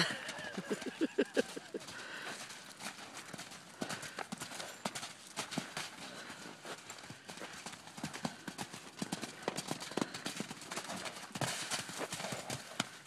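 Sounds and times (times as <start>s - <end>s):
horse hooves on dirt: 0.0s - 13.0s.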